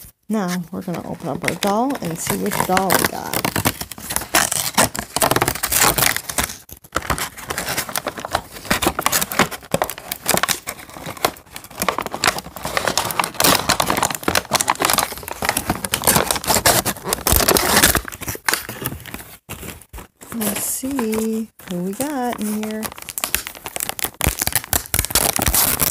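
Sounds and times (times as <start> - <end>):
packaging crinkling and rustling: 0.0 - 25.9.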